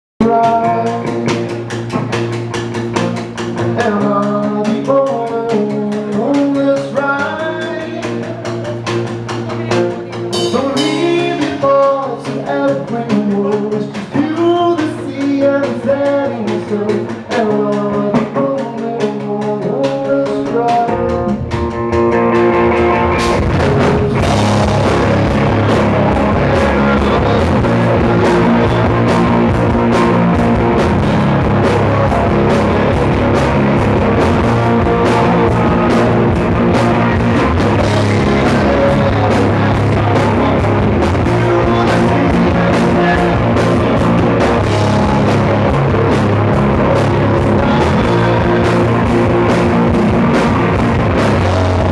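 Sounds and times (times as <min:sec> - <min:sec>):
drum kit: 0:00.2 - 0:51.9
electric guitar: 0:00.2 - 0:51.9
rock band playing: 0:00.2 - 0:51.9.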